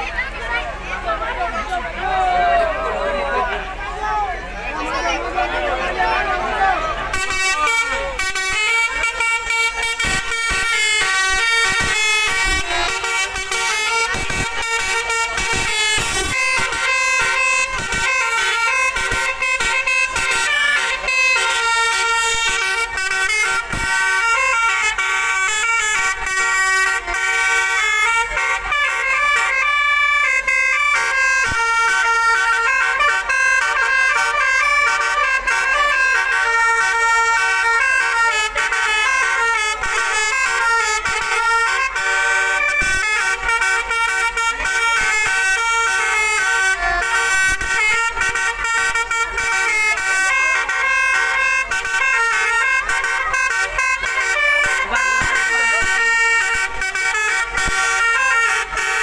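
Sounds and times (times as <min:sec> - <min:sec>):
multi-tone air horn melody: 0:00.0 - 0:59.0.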